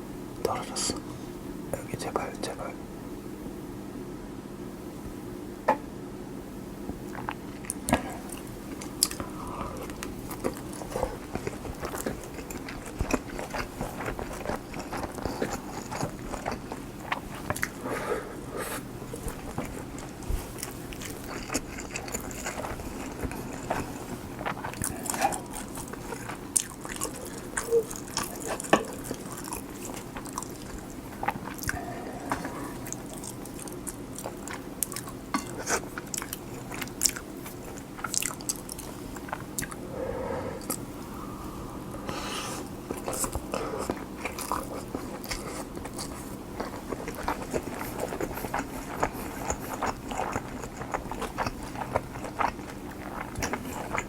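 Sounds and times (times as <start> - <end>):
close chewing mouth sounds: 7.0 - 39.8, 42.0 - 54.0.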